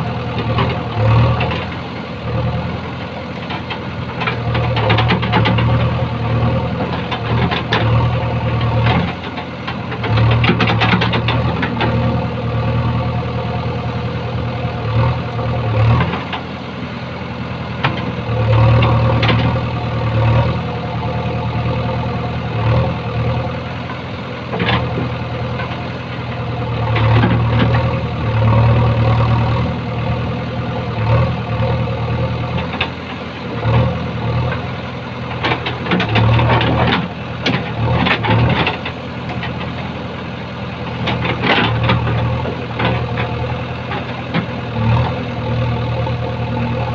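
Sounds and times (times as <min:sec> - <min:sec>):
diesel engine under load: 0:00.0 - 0:46.9.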